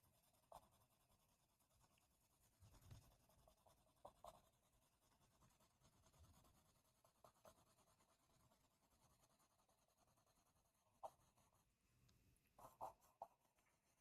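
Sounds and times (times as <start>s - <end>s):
drawing tool scratching paper: 0.0s - 11.7s, 12.6s - 13.5s.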